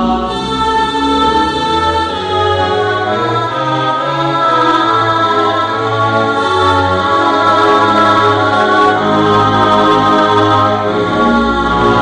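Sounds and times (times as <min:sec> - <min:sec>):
slow choir-like chords: 0:00.0 - 0:12.0.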